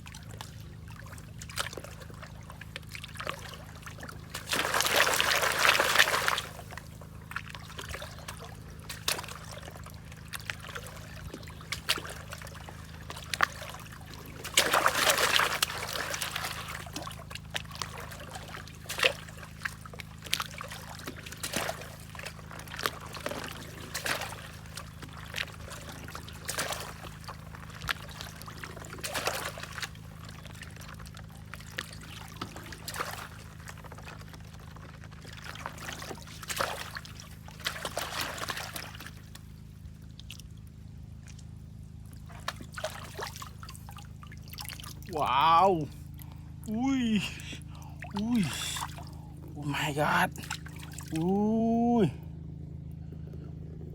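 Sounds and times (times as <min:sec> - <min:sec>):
short splashes and drips: 0:00.0 - 0:52.1
faint low hum: 0:00.0 - 0:53.9.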